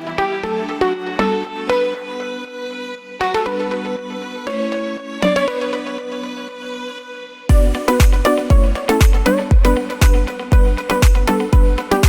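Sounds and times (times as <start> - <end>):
synth chords music: 0.0 - 12.0.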